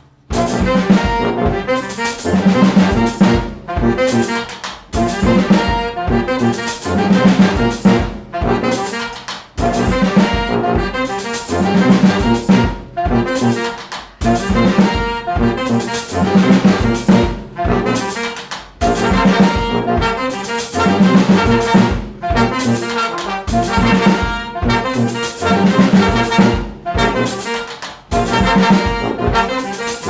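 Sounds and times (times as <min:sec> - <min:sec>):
brass band playing dance tune: 0:00.0 - 0:30.0
drum kit: 0:00.0 - 0:30.0.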